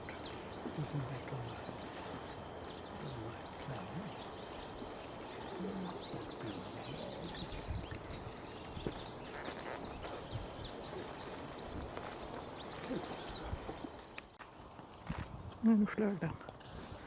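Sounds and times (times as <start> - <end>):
small birds chirping: 0.0 - 14.4
outdoor background noise: 0.0 - 17.0.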